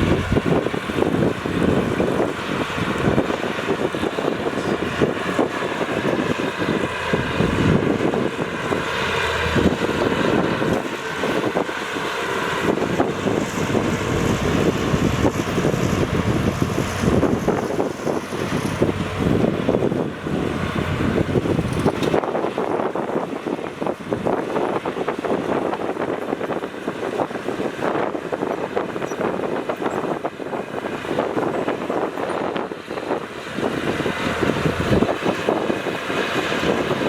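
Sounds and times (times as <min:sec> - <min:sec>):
heavy diesel machinery running: 0:00.0 - 0:37.0.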